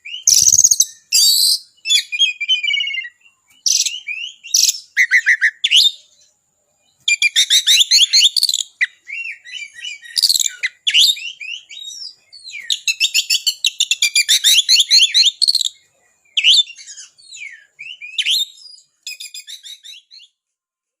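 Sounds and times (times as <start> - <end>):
songbird singing trills: 0.0 - 20.4.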